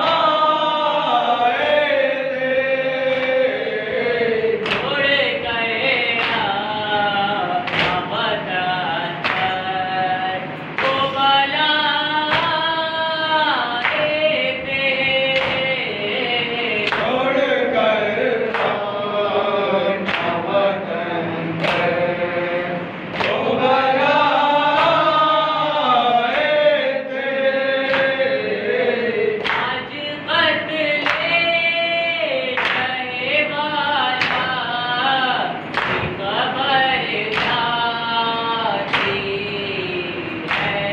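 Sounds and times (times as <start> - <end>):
men chanting a lament: 0.0 - 40.9.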